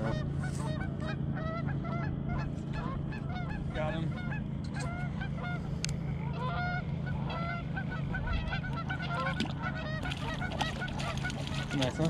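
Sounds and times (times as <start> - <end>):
geese honking: 0.0 - 12.0
steady low hum: 0.0 - 12.0.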